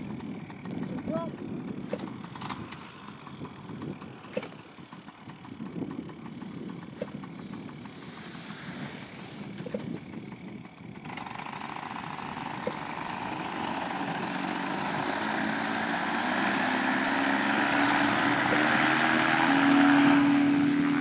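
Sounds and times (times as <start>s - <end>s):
paramotor engine and propeller: 0.0s - 21.0s.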